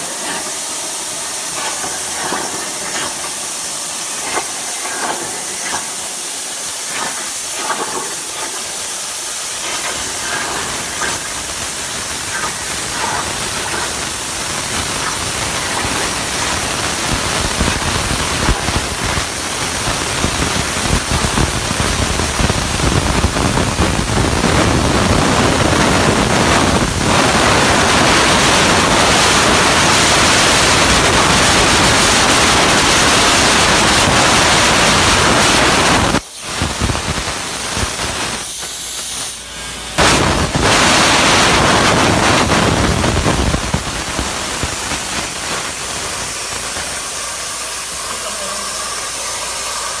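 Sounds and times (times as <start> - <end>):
plasma torch hissing: 0.0 - 25.4, 30.3 - 50.0.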